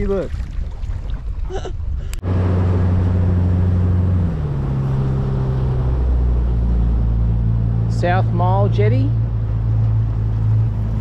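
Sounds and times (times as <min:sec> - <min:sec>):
outboard motor running: 0:02.2 - 0:11.0.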